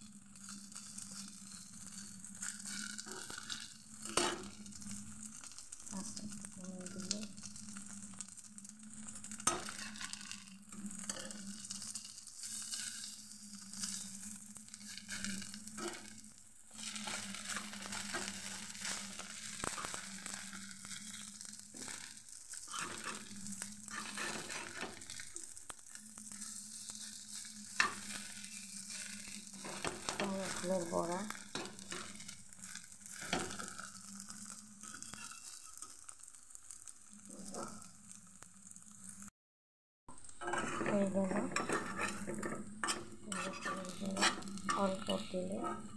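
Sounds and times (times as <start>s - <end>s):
fritters sizzling in a pan: 0.0s - 39.3s, 40.1s - 45.9s
metal spatula scraping a pan: 0.4s - 25.4s, 26.3s - 37.9s, 40.4s - 45.9s.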